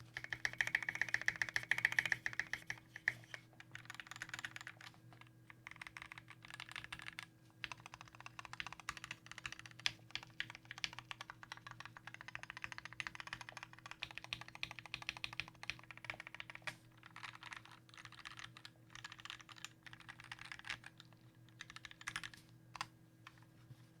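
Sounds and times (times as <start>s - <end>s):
fast mechanical keyboard typing: 0.0s - 22.9s.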